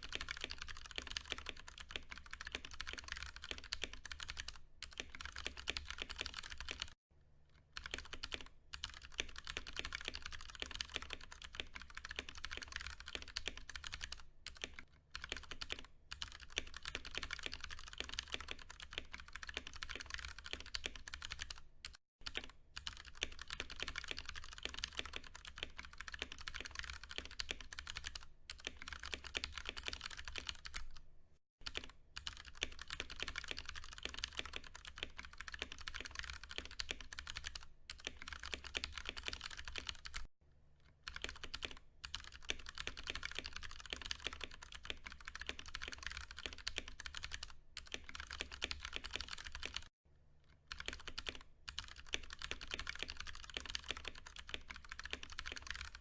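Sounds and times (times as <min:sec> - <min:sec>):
fast mechanical keyboard typing: 0:00.0 - 0:07.0, 0:07.8 - 0:31.0, 0:31.6 - 0:40.3, 0:41.0 - 0:49.9, 0:50.7 - 0:56.0.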